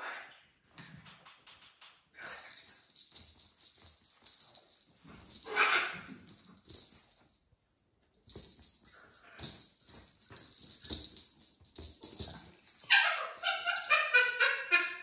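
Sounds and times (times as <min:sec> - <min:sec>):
small bells jingling: 0:02.2 - 0:15.0.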